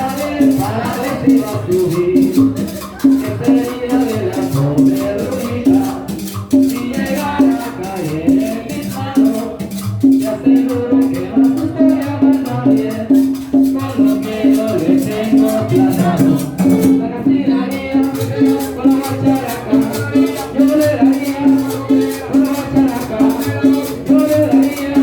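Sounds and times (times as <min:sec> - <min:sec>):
cumbia music with steady beat: 0:00.0 - 0:25.0
repeating bass line: 0:00.0 - 0:25.0
shaker percussion: 0:00.0 - 0:25.0.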